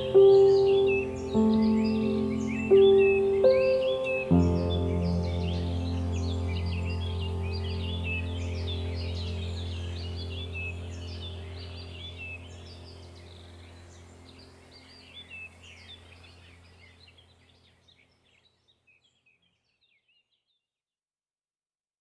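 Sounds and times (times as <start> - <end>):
steady low hum: 0.0 - 17.7
birds chirping: 0.0 - 20.2.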